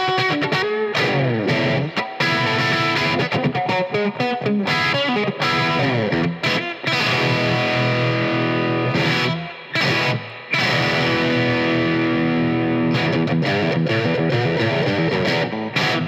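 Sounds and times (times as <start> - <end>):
overdriven electric guitar: 0.0 - 16.0.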